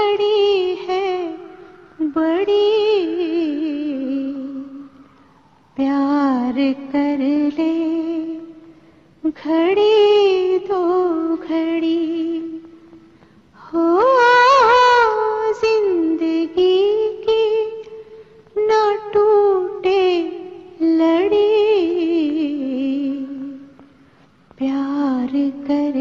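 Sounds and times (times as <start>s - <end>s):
woman singing with vibrato: 0.0s - 23.9s, 24.5s - 26.0s.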